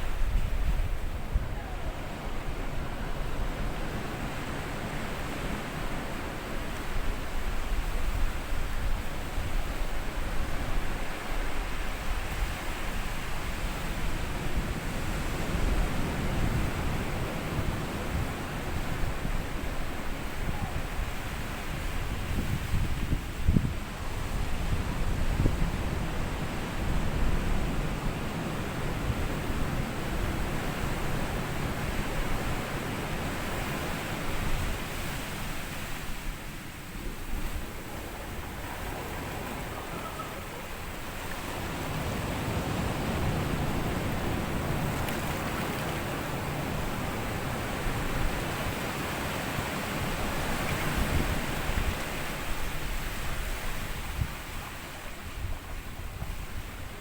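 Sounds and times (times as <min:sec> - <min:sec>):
wind rumble on microphone: 0:00.0 - 0:57.0
small waves washing on sand: 0:01.9 - 0:57.0.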